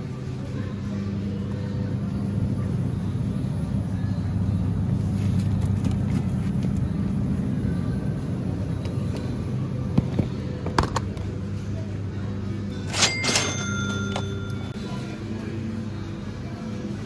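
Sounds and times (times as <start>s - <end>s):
supermarket interior hum: 0.0s - 17.0s.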